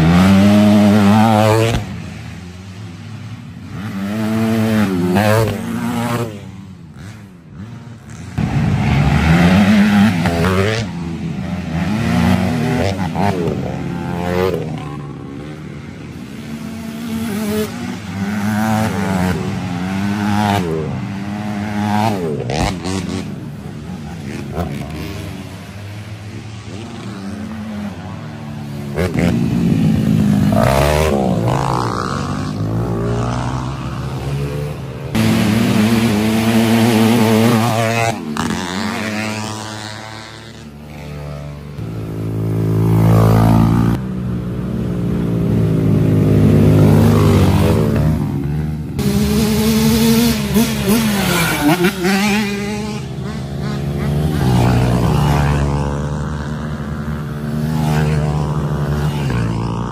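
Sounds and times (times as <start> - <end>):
quad engines revving past: 0.0 - 59.9.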